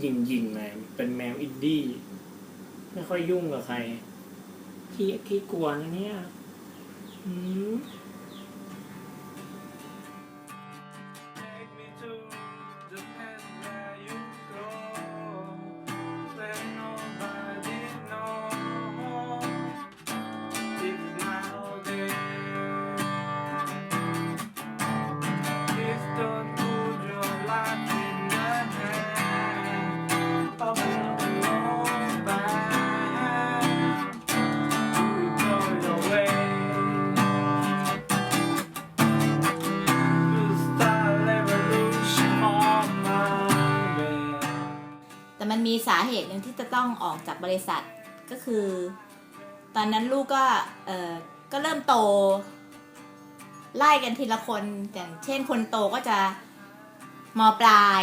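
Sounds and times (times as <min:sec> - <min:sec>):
strummed acoustic guitar music: 0:07.8 - 0:58.0.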